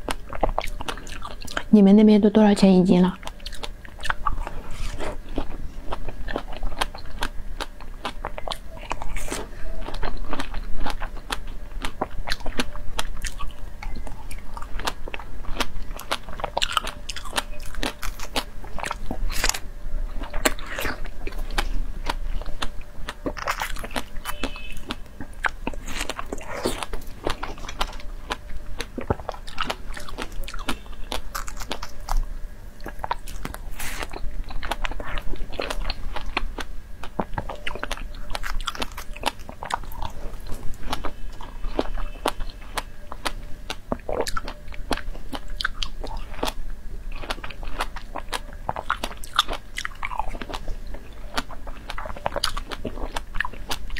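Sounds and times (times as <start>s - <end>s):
strawberries being bitten and chewed: 0.0s - 1.7s, 3.1s - 53.9s.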